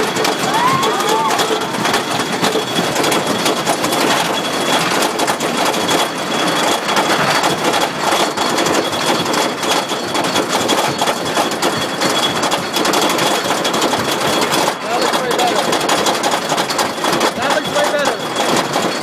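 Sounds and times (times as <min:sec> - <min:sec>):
roller coaster wheels clattering: 0:00.0 - 0:19.0.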